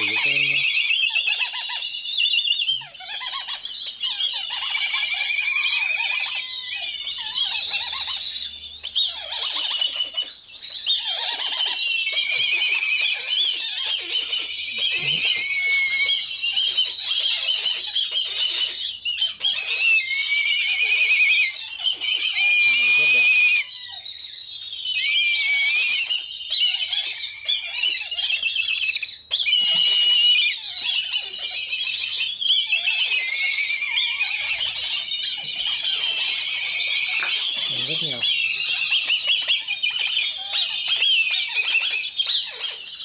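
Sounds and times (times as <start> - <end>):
bird chicks calling: 0.0 - 43.0.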